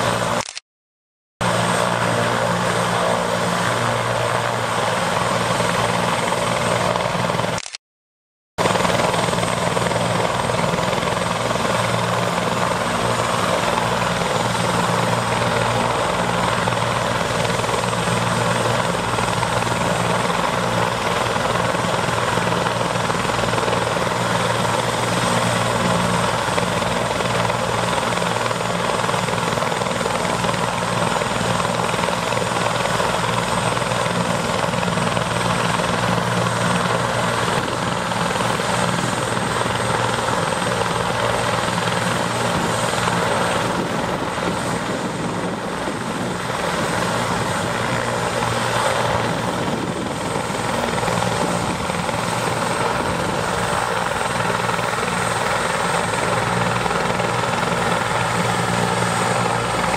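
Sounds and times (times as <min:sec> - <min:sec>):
helicopter turbine whine: 0:00.0 - 0:00.5, 0:01.4 - 0:07.7, 0:08.6 - 0:59.9.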